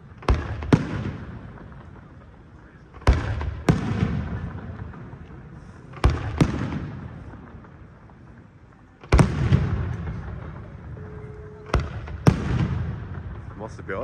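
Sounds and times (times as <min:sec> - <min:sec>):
fireworks bursting with rumble: 0:00.0 - 0:14.0.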